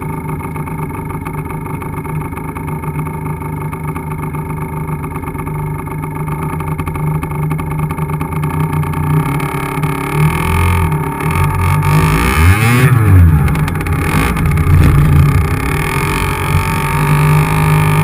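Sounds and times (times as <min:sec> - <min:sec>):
two-stroke motorcycle engine: 0:00.0 - 0:18.0.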